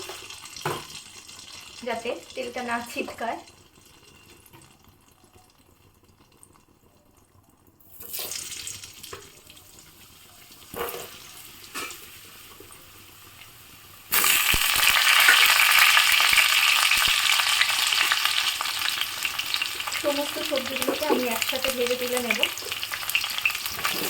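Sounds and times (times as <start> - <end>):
vegetables sizzling in oil: 0.0 - 6.9, 7.8 - 24.0
hot oil crackling: 0.0 - 24.0.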